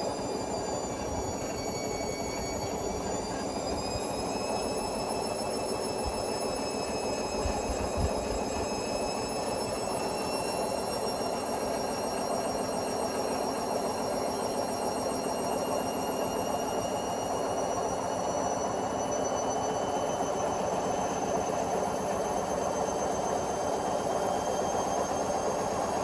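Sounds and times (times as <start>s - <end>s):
washing machine motor whine: 0.0s - 26.0s.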